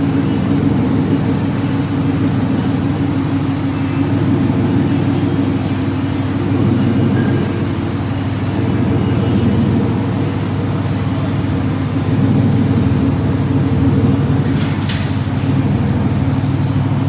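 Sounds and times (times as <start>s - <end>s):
loud car engine idling: 0.0s - 17.0s.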